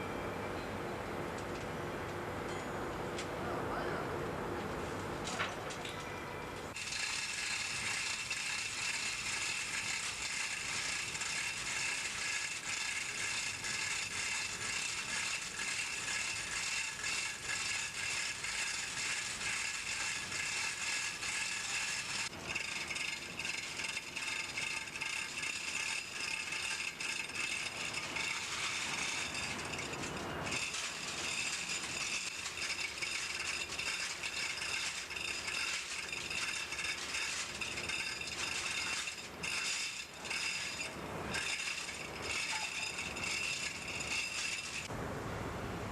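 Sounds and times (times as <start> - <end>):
machinery mechanical rattle: 5.2 - 44.9.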